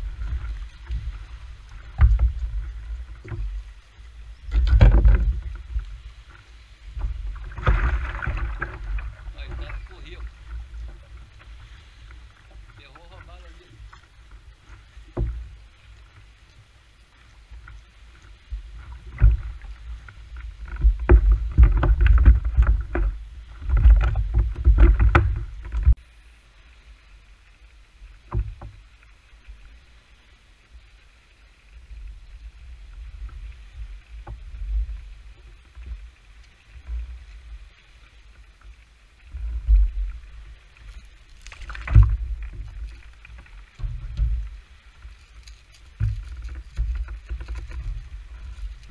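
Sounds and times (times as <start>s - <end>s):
water and handling around hull: 0.0s - 48.9s.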